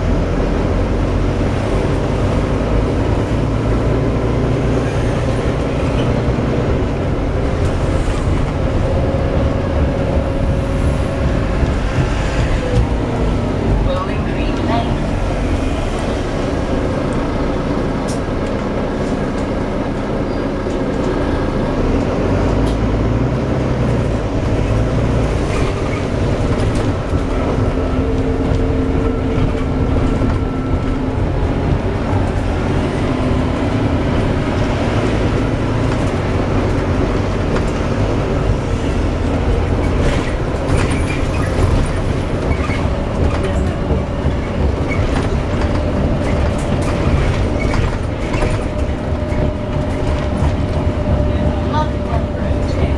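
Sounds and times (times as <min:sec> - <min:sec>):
bus engine rumble: 0:00.0 - 0:52.9.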